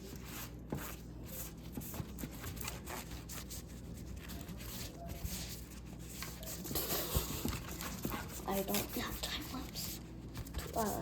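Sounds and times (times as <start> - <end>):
cloth rubbing on plastic: 0.0 - 11.0.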